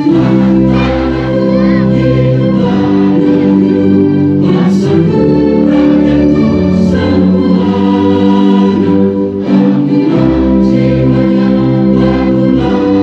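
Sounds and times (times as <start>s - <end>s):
choir singing: 0.0s - 13.0s
instrumental accompaniment: 0.0s - 13.0s.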